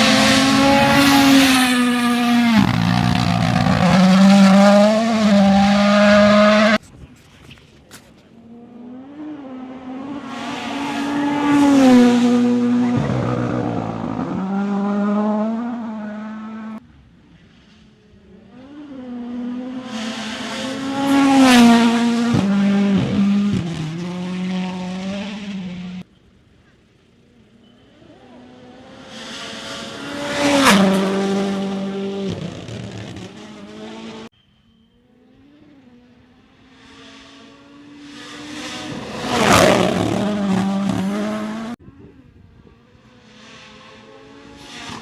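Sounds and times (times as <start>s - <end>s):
rally car engines passing: 0.0s - 26.1s, 26.7s - 34.3s, 35.1s - 45.0s.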